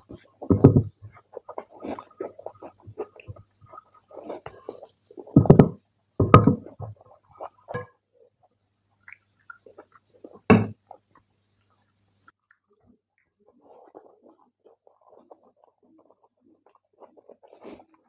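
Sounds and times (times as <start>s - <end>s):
chewing: 0.0s - 5.5s, 8.4s - 18.0s.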